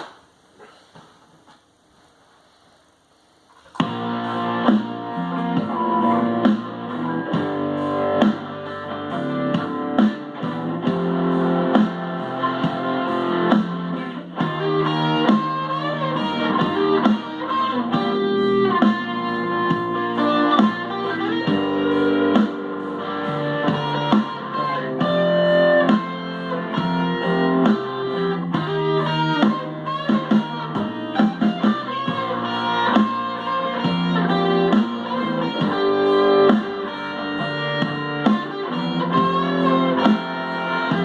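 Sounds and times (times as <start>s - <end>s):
bass and drum backing: 3.4s - 41.0s
electric guitar playing: 3.8s - 41.0s.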